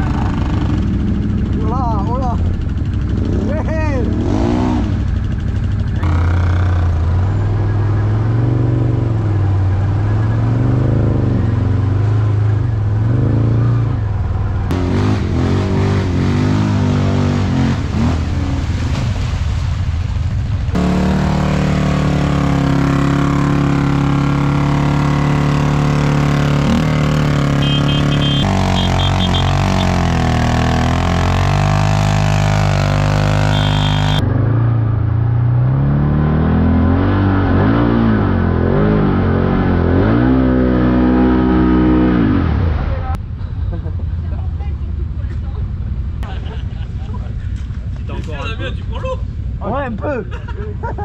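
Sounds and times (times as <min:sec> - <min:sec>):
quad bike engines revving: 0:00.0 - 0:19.0, 0:20.7 - 0:51.0.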